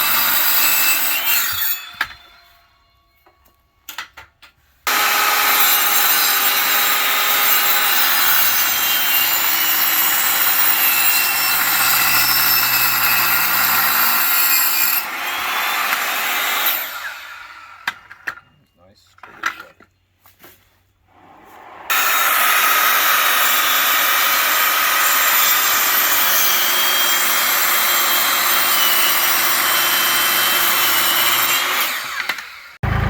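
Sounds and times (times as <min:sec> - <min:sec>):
power saw cutting wood: 0:00.0 - 0:02.4, 0:04.9 - 0:18.4, 0:21.1 - 0:33.0.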